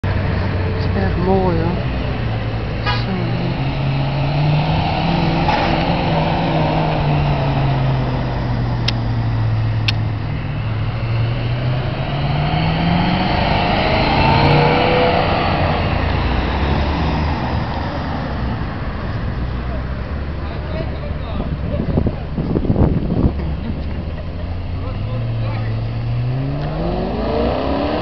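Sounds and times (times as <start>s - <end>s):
car engine running at low revs: 0.0s - 28.0s.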